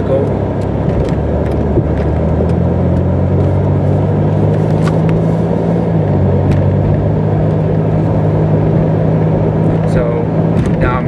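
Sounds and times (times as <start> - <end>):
car engine hum: 0.0 - 11.0
road noise rush: 0.0 - 11.0.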